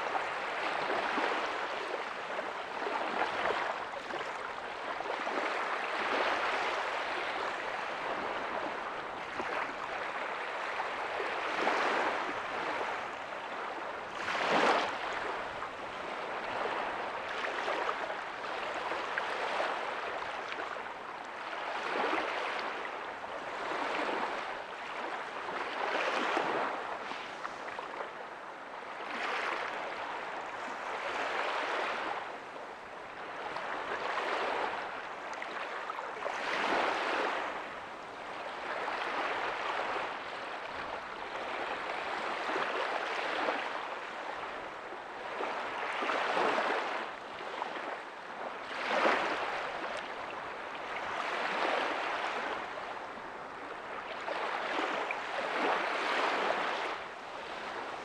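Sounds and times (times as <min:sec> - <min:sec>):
small waves breaking on sand: 0:00.0 - 0:58.0.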